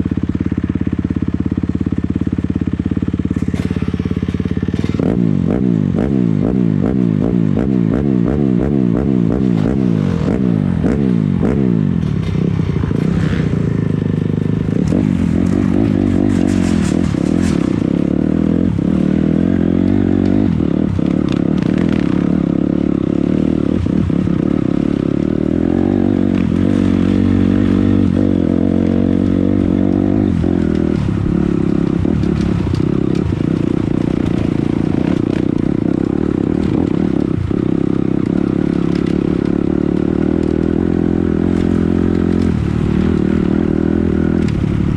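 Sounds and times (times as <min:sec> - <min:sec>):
knocks and clatter from bike: 0:00.0 - 0:44.9
dirt bike engine revving: 0:01.0 - 0:44.9.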